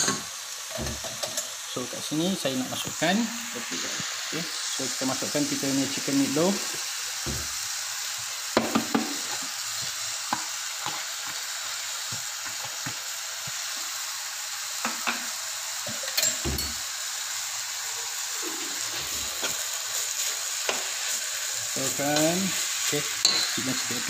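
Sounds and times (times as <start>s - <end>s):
sauce sizzling in a pot: 0.0s - 24.0s.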